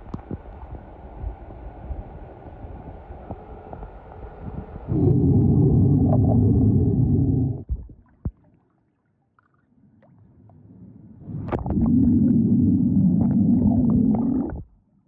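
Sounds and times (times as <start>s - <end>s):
underwater rumble and churning: 0.0s - 8.7s, 9.4s - 14.8s.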